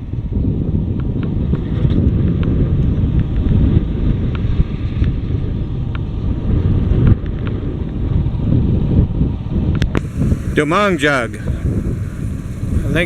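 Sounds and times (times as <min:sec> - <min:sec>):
motorcycle road noise: 0:00.0 - 0:13.0
wind buffeting microphone: 0:00.0 - 0:13.0.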